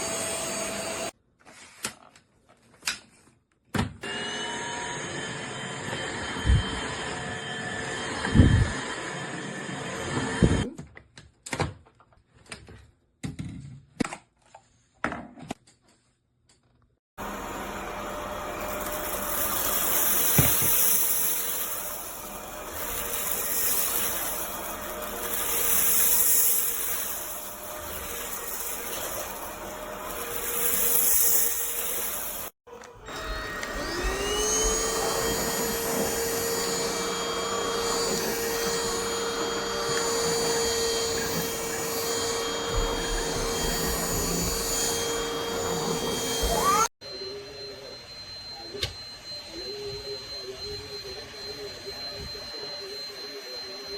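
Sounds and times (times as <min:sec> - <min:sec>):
vacuum cleaner motor whining: 0:00.0 - 0:01.2, 0:04.0 - 0:10.7, 0:17.2 - 0:53.9.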